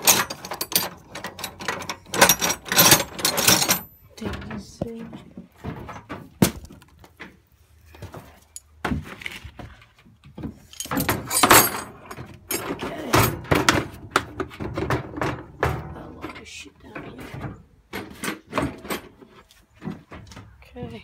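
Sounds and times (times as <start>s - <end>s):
tools and metal parts clanking: 0.0s - 7.3s, 10.3s - 20.4s.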